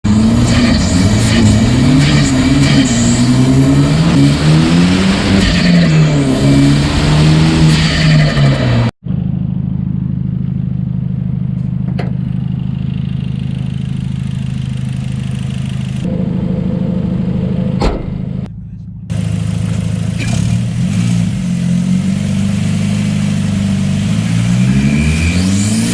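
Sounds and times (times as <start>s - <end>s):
car engine revving and idling: 0.0s - 25.9s.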